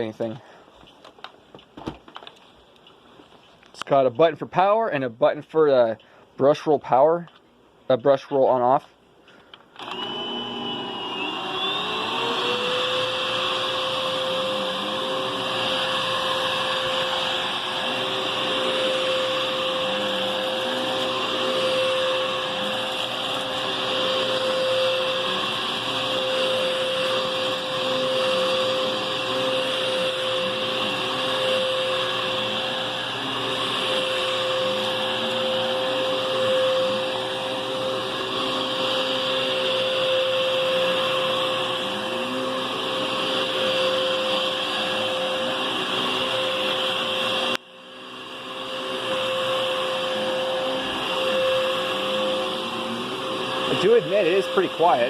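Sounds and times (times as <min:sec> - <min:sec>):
vacuum cleaner running: 0:09.8 - 0:55.0
vacuum pushed over floor: 0:09.8 - 0:55.0.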